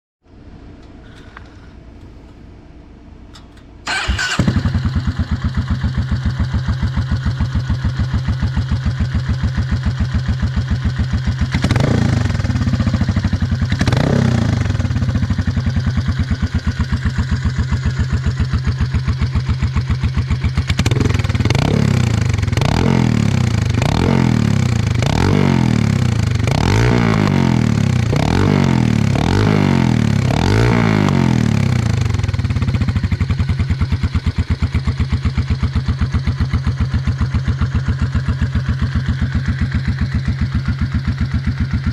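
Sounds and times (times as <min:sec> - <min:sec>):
motorcycle engine idling and revving: 0:00.8 - 0:41.9.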